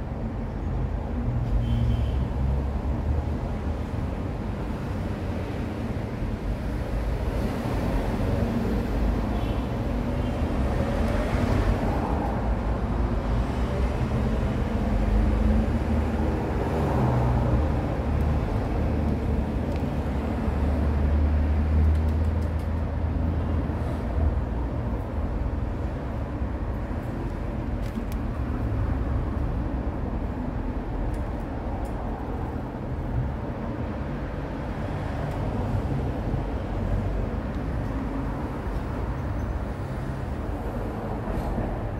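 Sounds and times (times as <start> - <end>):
road traffic rumble: 0.0 - 41.9.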